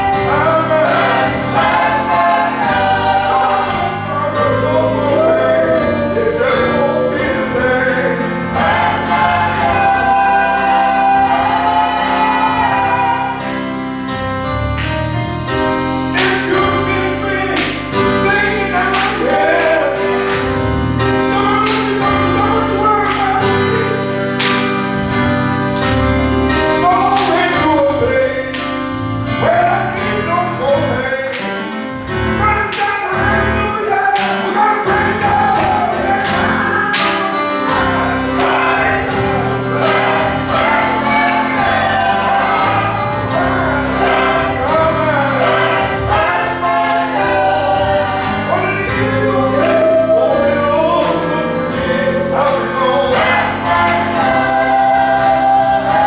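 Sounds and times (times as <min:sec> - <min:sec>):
choir singing gospel: 0:00.0 - 0:56.0.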